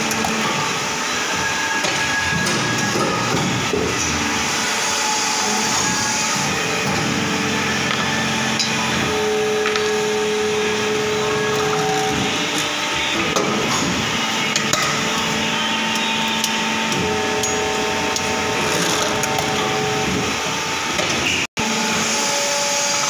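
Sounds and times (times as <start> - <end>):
machine humming: 0.0 - 23.0.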